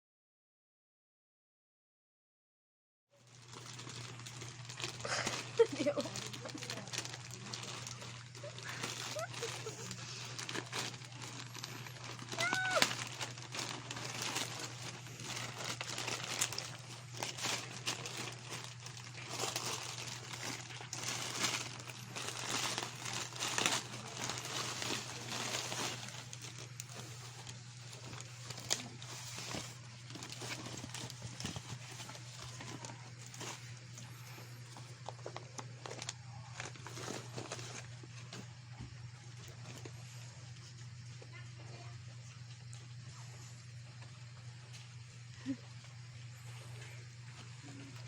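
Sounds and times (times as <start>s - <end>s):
crinkling plastic and paper: 3.2s - 48.0s
steady low hum: 3.3s - 48.0s.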